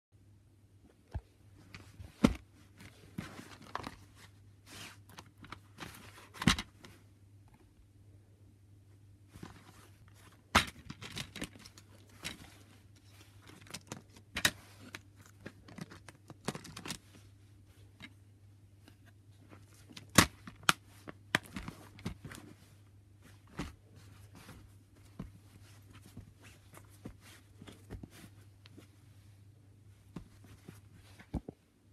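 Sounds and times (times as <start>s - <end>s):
faint low hum: 0.2s - 31.9s.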